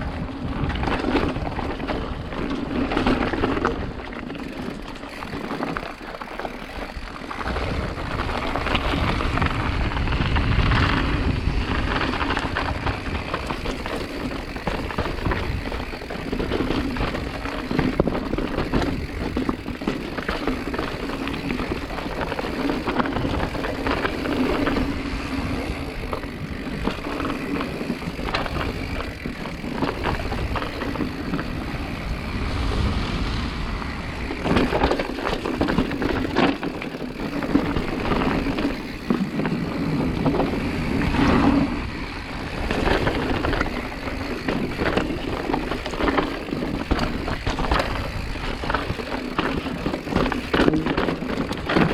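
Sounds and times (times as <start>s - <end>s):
mountain bike rattling over rough ground: 0.0s - 51.9s.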